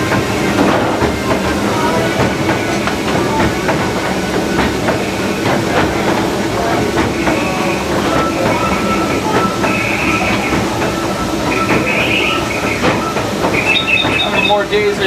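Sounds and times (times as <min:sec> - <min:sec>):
high steady tones: 0:00.0 - 0:15.0
steam locomotive running: 0:00.0 - 0:15.0
wheels clattering over rail joints: 0:00.0 - 0:15.0.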